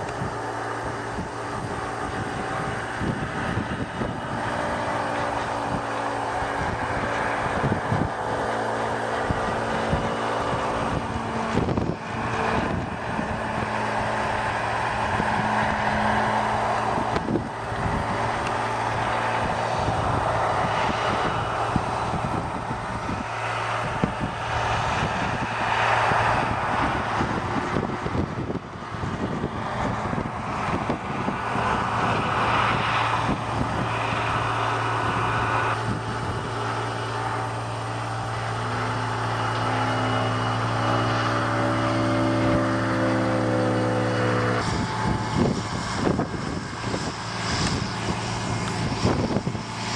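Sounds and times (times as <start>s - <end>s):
model airplane motor and propeller: 0.0s - 49.9s.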